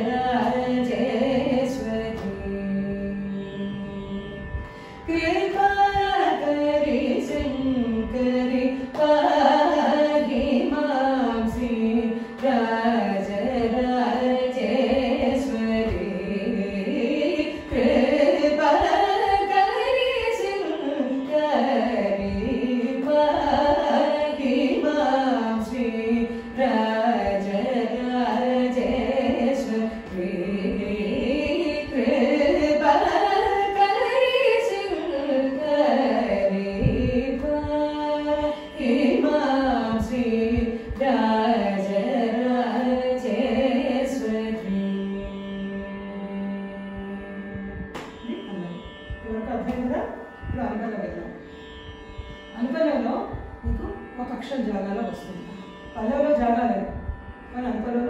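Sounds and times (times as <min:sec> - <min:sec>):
women singing: 0:00.0 - 0:04.4, 0:05.1 - 0:47.6
veena accompaniment: 0:00.0 - 0:58.0.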